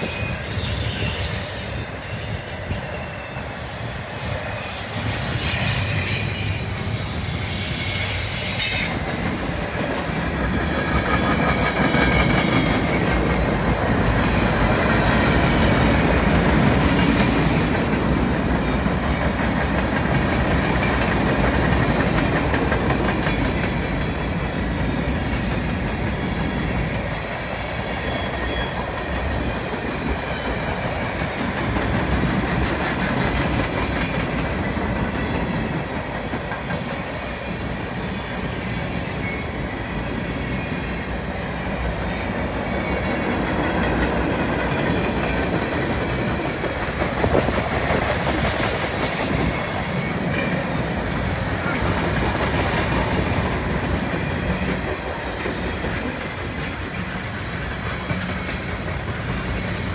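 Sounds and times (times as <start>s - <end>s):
freight train rolling by: 0.0s - 59.9s.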